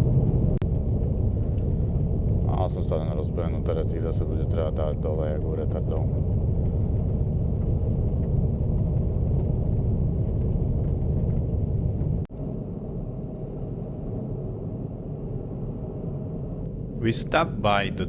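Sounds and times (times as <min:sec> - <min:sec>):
car engine and tyres rumbling: 0:00.0 - 0:18.0
quieter steady rumble: 0:00.0 - 0:18.0.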